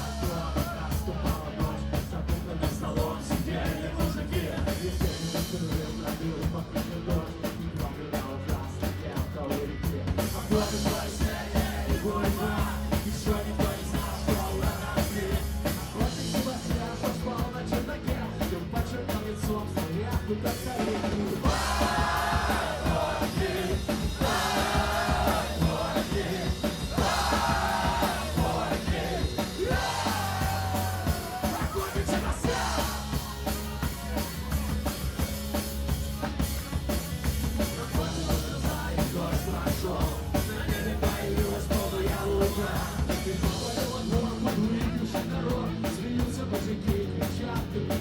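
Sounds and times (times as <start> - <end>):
punk rock band playing: 0.0 - 48.0.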